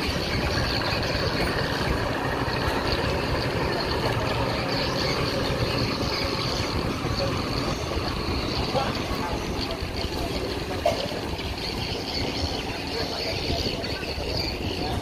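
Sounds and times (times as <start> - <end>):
outboard boat motors running: 0.0 - 15.0.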